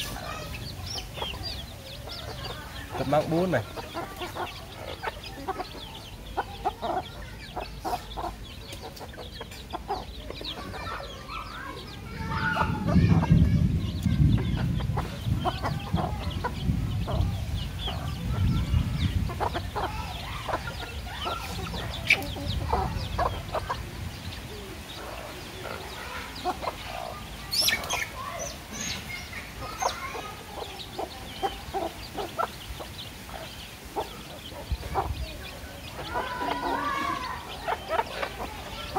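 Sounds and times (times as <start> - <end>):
beaks pecking concrete: 0.0 - 38.9
chicks peeping: 0.0 - 38.9
hens clucking: 0.0 - 38.9.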